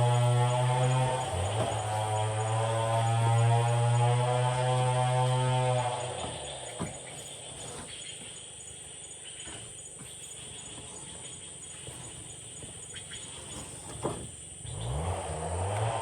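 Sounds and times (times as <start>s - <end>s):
high insect chirp: 0.0s - 15.6s.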